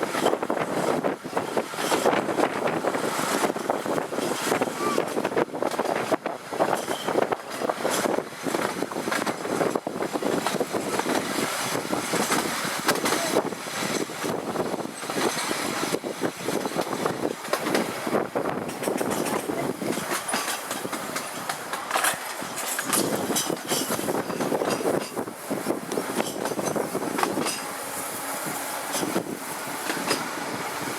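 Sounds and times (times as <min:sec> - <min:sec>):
tram wheels running on rail: 0:00.0 - 0:30.9.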